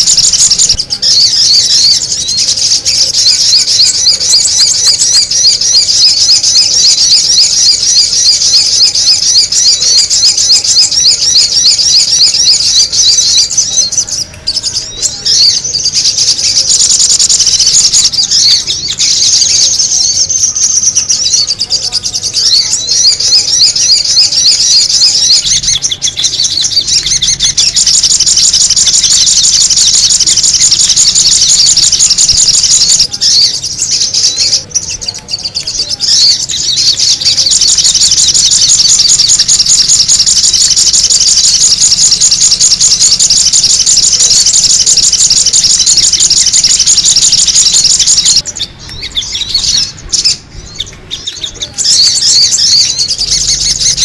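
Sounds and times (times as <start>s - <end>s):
bird chirping chatter: 0.0s - 54.0s.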